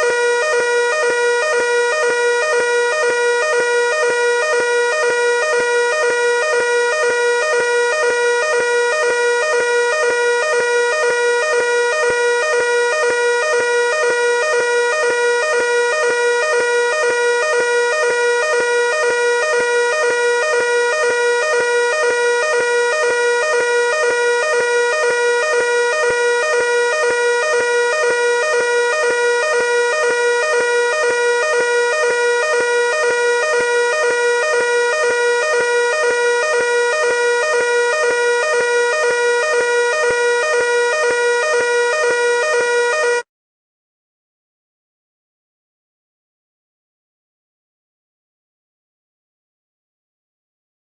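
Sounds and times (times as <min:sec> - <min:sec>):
fire alarm pulsing tone: 0:00.0 - 0:43.3.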